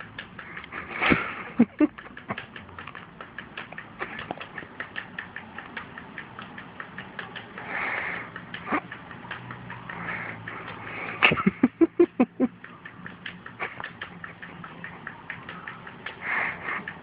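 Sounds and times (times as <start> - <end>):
cat claws tapping on screen: 0.0 - 17.0.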